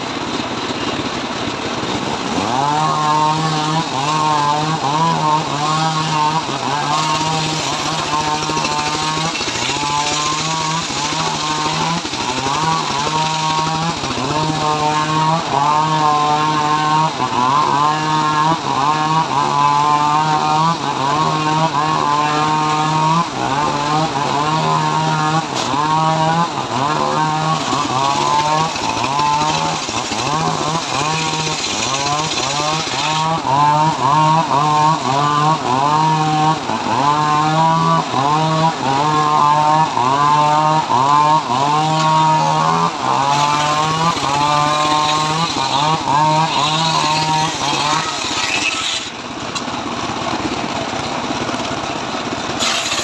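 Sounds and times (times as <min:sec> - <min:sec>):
circular saw cutting wood: 0:00.0 - 0:53.0.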